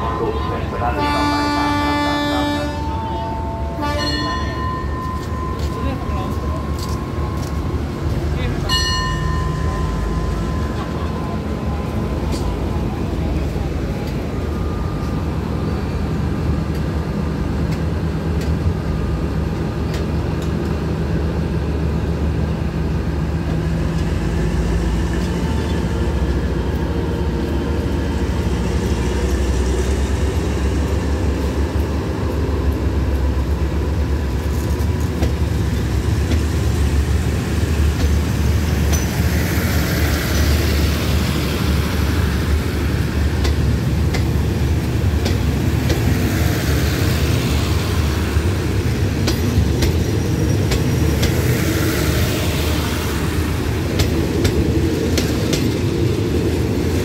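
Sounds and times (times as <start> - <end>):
diesel locomotive engine droning: 0.0 - 57.0
train wheels rumbling on rails: 0.0 - 57.0.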